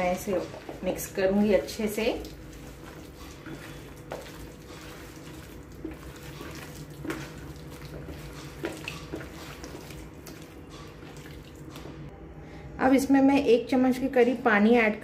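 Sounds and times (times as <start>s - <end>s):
hand squelching in marinade: 0.0s - 12.1s.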